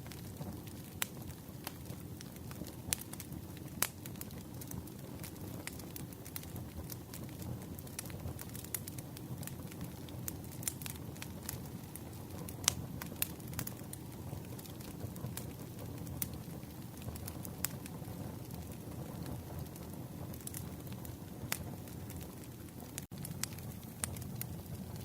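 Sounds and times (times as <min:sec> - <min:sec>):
campfire flames rumbling: 0:00.0 - 0:25.0
wood crackling and popping: 0:00.0 - 0:25.0.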